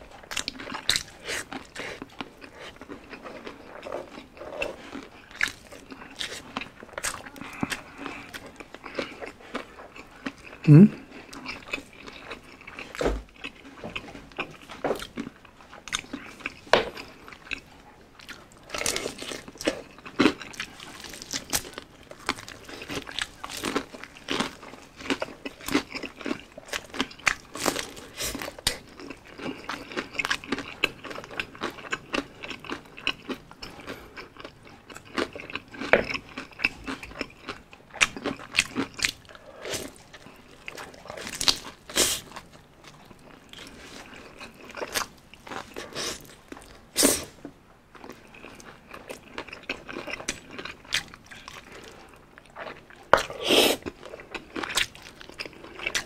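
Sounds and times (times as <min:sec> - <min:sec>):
chewing: 0:00.0 - 0:56.0
crunching fried chicken: 0:00.0 - 0:56.0.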